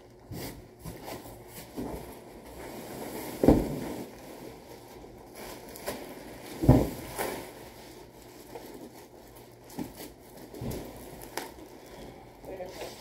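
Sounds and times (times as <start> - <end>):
bubble wrap and cardboard rustling: 0.0 - 13.0.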